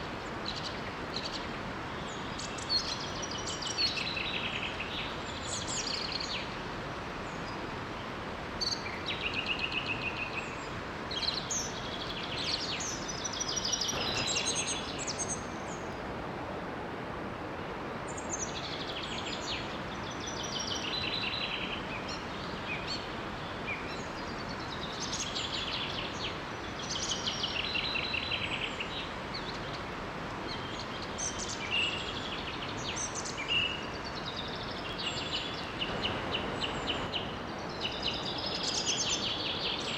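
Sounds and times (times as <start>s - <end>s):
songbirds singing: 0.0s - 16.1s, 18.1s - 39.9s
small waterfall rushing: 0.0s - 39.9s.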